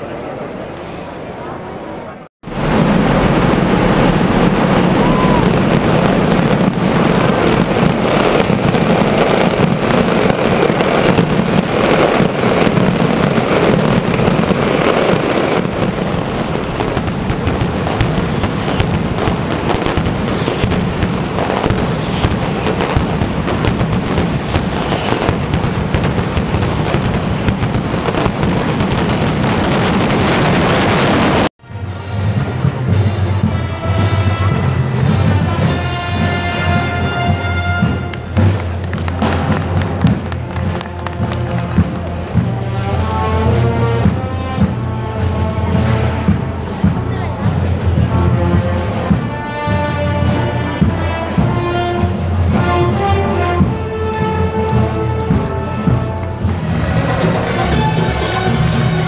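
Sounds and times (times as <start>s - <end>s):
firecrackers crackling and banging: 2.4s - 31.6s, 32.4s - 59.0s.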